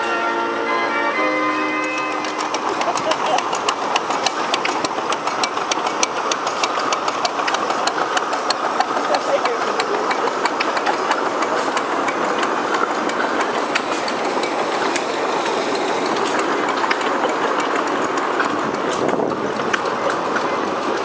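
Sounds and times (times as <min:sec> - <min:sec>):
steel wheels rumbling on rail: 0:00.0 - 0:21.0
wheels clicking over rail joints: 0:01.2 - 0:21.0.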